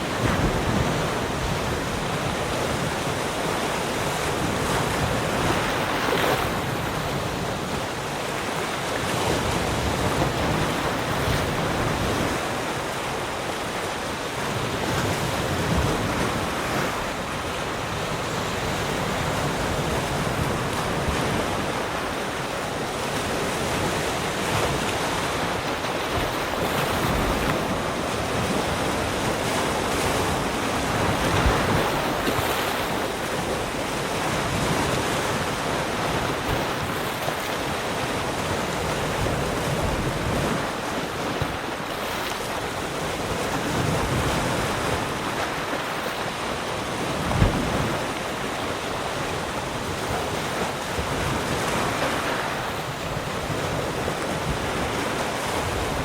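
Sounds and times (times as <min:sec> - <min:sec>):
waves breaking and washing in: 0:00.0 - 0:56.0.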